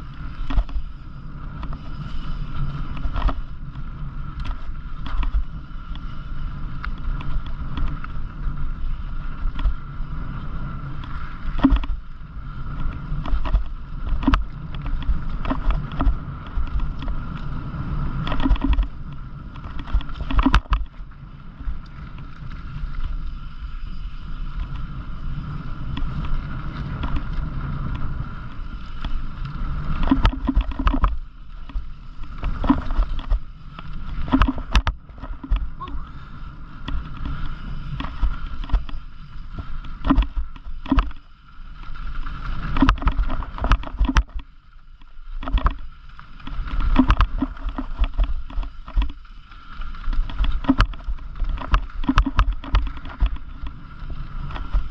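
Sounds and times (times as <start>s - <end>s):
bike knocking and rattling: 0.0s - 54.9s
tyres rumbling on trail: 0.0s - 54.9s
wind on microphone: 0.0s - 54.9s.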